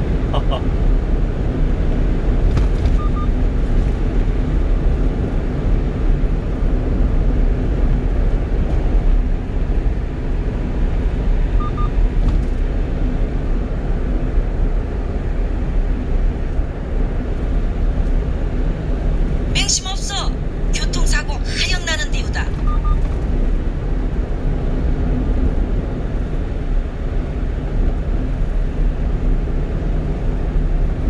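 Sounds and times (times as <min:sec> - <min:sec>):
truck engine and road drone: 0:00.0 - 0:31.0.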